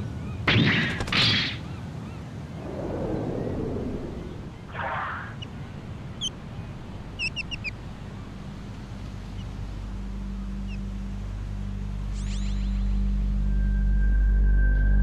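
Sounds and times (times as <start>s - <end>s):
low rumbling: 2.3s - 15.0s
low steady musical drone: 2.4s - 15.0s.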